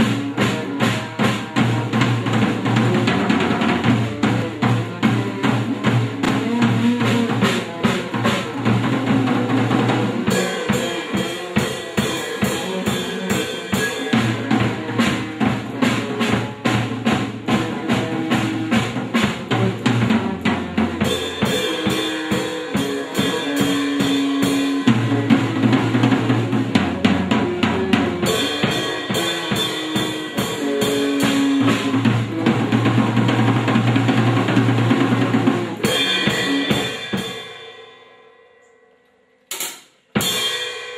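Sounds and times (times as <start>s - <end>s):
drum kit beating: 0.0s - 38.2s, 39.5s - 40.9s.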